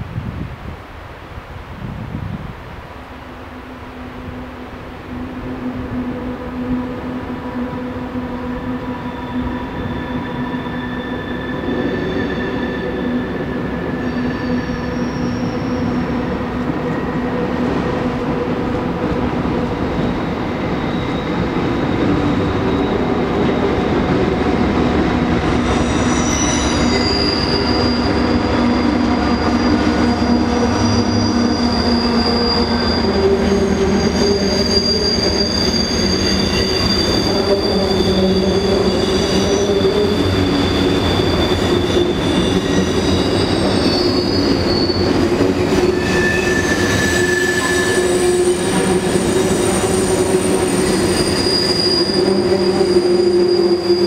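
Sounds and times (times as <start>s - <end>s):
freight train rumble on bridge: 0.0s - 54.0s
wheels squealing on rails: 4.2s - 54.0s.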